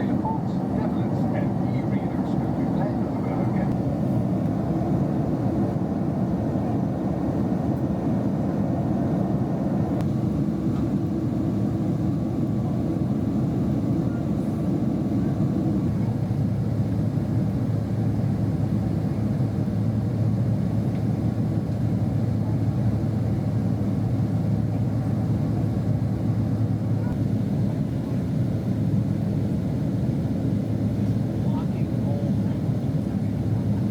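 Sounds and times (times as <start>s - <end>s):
jet engine rumble and airflow: 0.0s - 33.9s.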